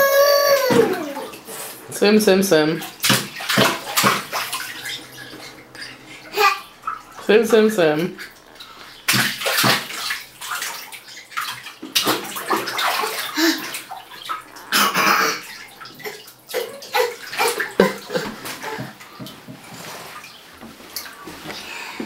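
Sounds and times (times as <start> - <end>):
bathwater splashing: 0.0 - 22.0.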